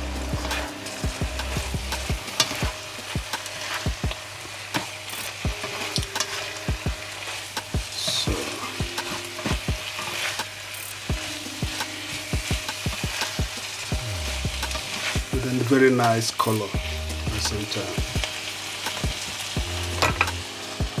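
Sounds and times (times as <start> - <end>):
sauce sizzling in a pan: 0.0 - 21.0.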